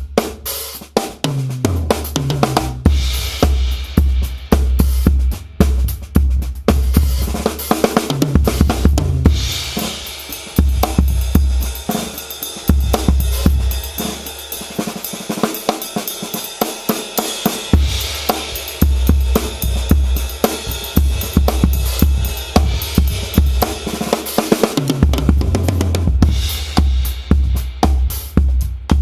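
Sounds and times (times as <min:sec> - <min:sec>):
bass drum: 0:00.0 - 0:15.0, 0:17.5 - 0:29.0
drum kit groove: 0:00.0 - 0:29.0
hi-hat and cymbals: 0:00.0 - 0:29.0
snare drum: 0:00.0 - 0:29.0.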